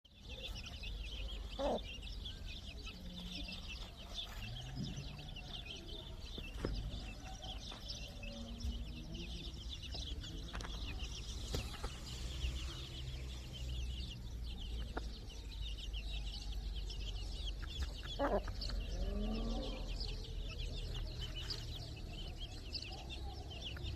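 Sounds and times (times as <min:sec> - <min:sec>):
chicks peeping: 0:00.1 - 0:23.9
chickens clucking: 0:00.2 - 0:23.9.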